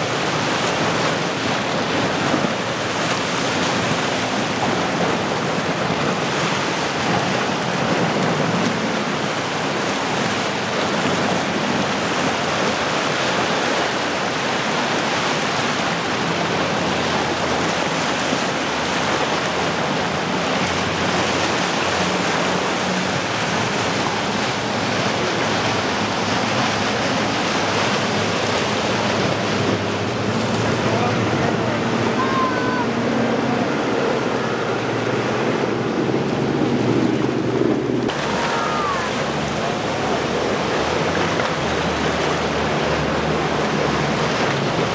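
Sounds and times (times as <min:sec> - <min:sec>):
low boat engine drone: 0:00.0 - 0:44.9
wake and spray rushing: 0:00.0 - 0:44.9.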